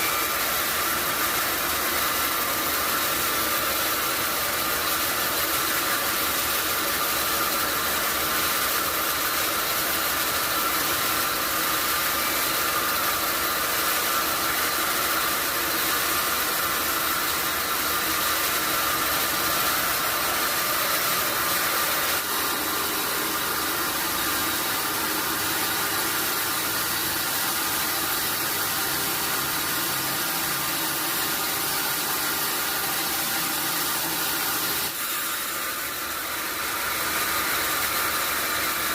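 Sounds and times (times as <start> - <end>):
sawmill saw whirring: 0.0 - 38.9.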